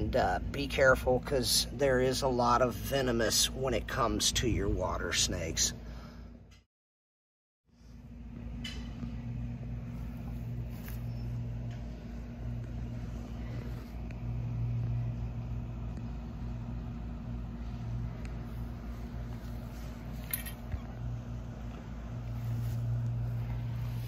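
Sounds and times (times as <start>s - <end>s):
low machine hum: 0.0s - 6.6s, 7.7s - 24.0s.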